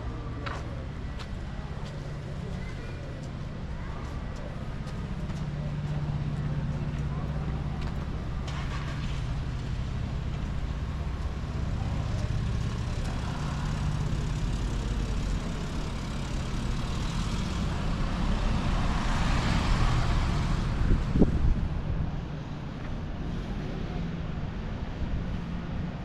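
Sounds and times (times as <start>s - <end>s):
vehicle low rumble: 0.0s - 26.0s
passing vehicle noise: 3.1s - 26.0s.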